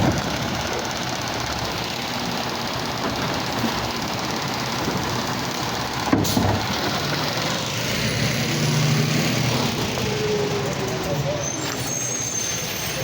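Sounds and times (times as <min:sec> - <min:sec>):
garbage truck engine running: 0:00.0 - 0:12.5.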